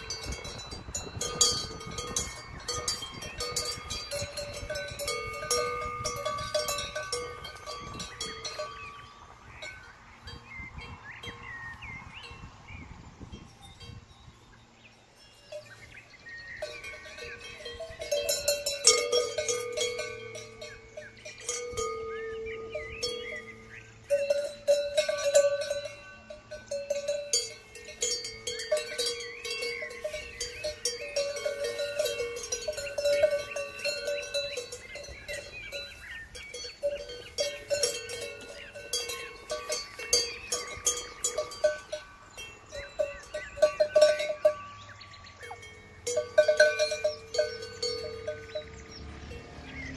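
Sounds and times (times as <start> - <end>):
cowbells clanking: 0.0 - 12.5, 13.4 - 49.9.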